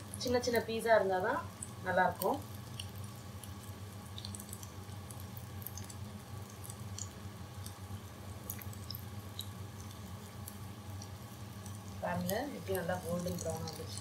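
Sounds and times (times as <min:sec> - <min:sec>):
food deep-frying in hot oil: 0:00.0 - 0:14.0
low steady hum: 0:00.0 - 0:14.0.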